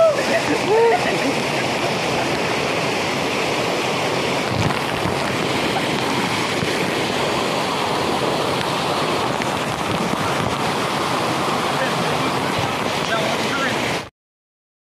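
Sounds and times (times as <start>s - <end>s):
stream water rushing: 0.0s - 14.1s.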